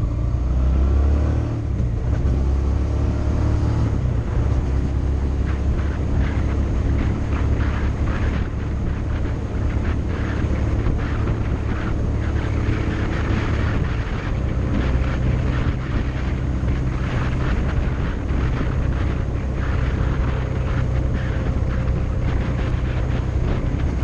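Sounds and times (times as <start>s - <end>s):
motorcycle engine running: 0.0s - 24.0s
wind rushing past microphone: 0.0s - 24.0s.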